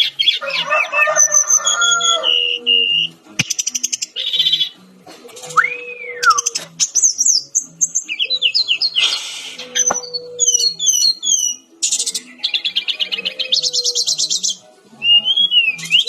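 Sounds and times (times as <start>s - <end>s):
bird song trills and chirps: 0.0s - 16.0s.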